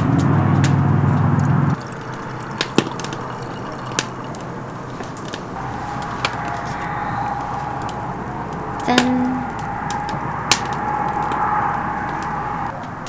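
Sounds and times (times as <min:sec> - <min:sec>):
low rumble: 0:00.0 - 0:12.8
fire crackling and popping: 0:00.0 - 0:13.0.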